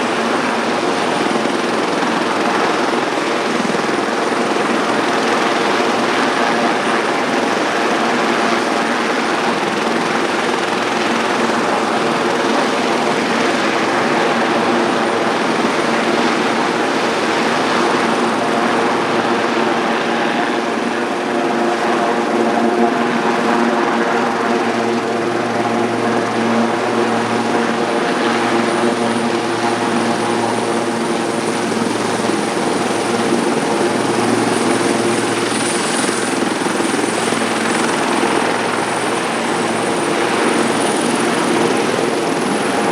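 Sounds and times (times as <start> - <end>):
helicopter engines and rotors: 0.0 - 42.9
high turbine whine: 0.0 - 42.9.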